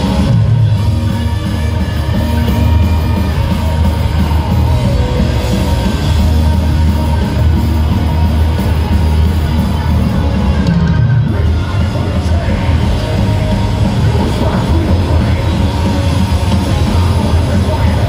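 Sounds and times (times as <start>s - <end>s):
bass guitar: 0.0s - 18.0s
distorted electric guitars: 0.0s - 18.0s
drums: 0.0s - 18.0s.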